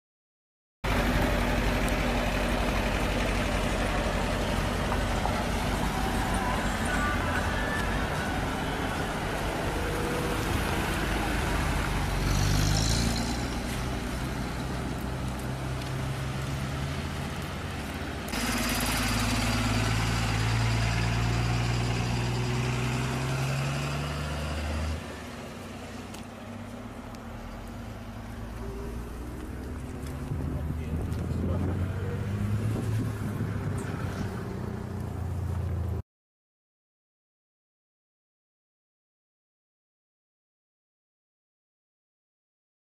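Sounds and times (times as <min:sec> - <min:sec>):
road noise: 0:00.8 - 0:36.0
vehicle engine: 0:00.8 - 0:36.0.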